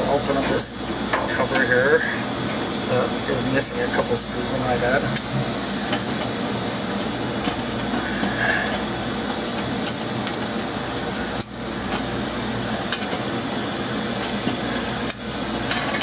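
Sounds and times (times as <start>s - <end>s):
machinery hum and whir: 0.0s - 16.0s.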